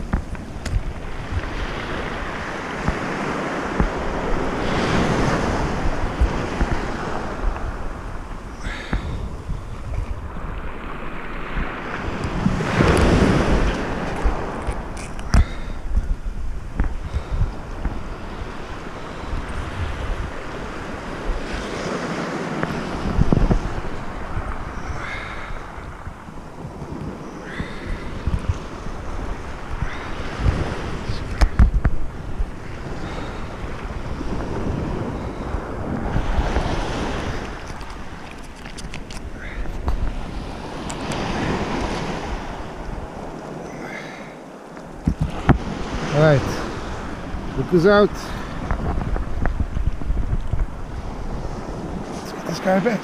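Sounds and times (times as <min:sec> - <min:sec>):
surf washing on shore: 0:00.0 - 0:53.0
wave breaking: 0:00.0 - 0:53.0
wind buffeting microphone: 0:00.0 - 0:53.0.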